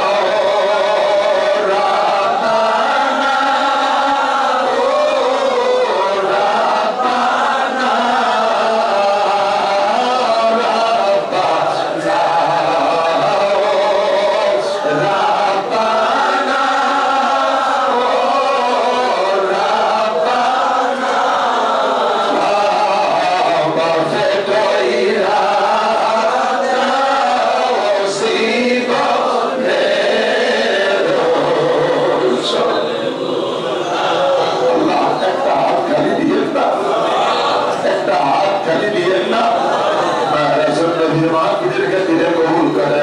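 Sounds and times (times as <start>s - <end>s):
man chanting into microphone: 0.0s - 37.0s, 37.7s - 39.7s, 40.3s - 43.0s
men chanting along: 0.0s - 43.0s.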